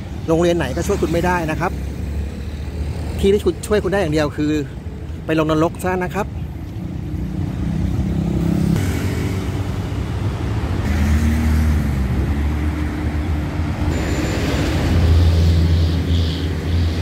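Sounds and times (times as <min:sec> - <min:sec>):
cars and motorcycles passing: 0:00.0 - 0:17.0.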